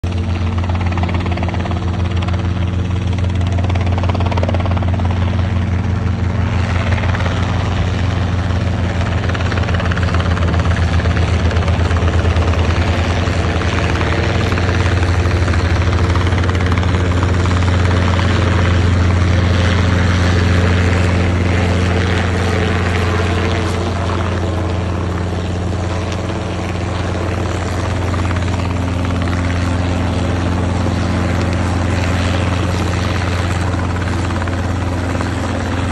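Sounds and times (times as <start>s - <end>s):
helicopter rotor beating: 0.0s - 35.9s.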